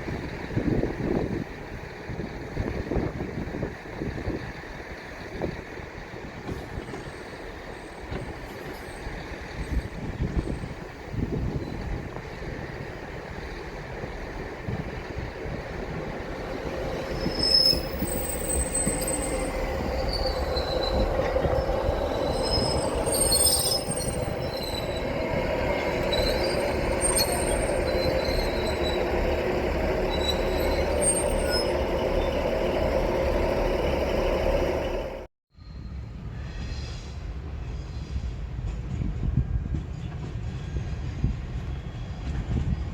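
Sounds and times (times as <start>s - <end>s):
train rumbling past: 0.0s - 42.9s
wheels squealing on rails: 2.6s - 42.9s.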